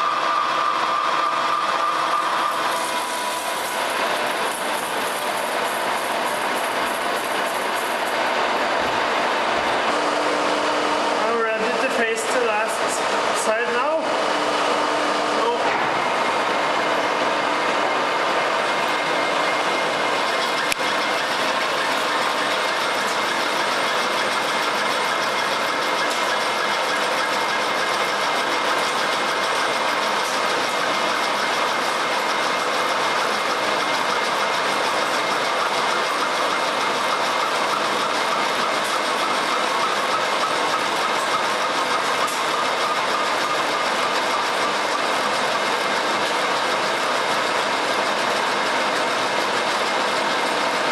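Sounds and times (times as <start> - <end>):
lathe cutting steel: 0.0 - 50.9.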